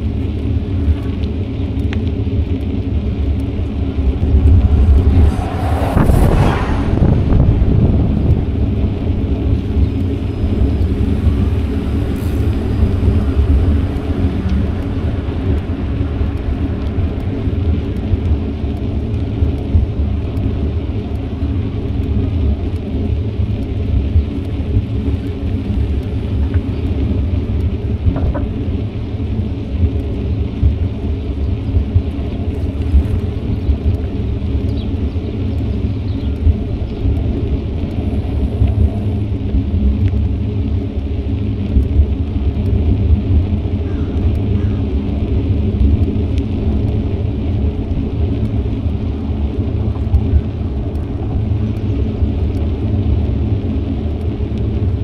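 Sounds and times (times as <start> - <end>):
bicycle tyres rolling on pavement: 0.0 - 55.0
wind buffeting microphone: 0.7 - 55.0.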